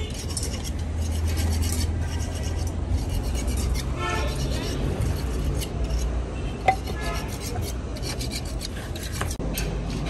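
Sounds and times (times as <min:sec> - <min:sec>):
rough rubbing and scraping: 0:00.0 - 0:10.0.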